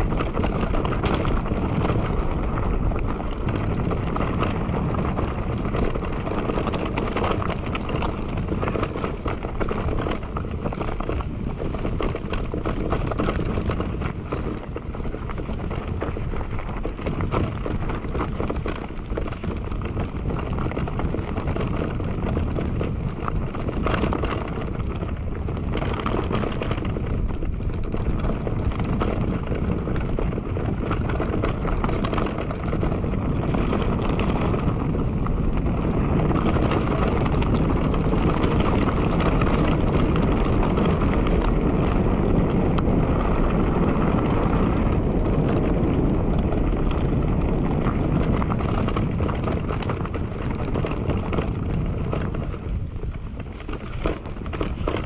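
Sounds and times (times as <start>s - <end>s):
tyres rumbling over ground: 0.0s - 55.0s
wind rushing over microphone: 0.0s - 55.0s.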